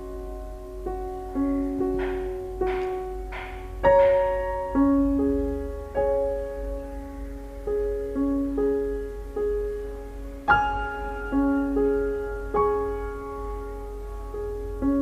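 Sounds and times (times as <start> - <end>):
soft slow piano notes: 0.0 - 15.0.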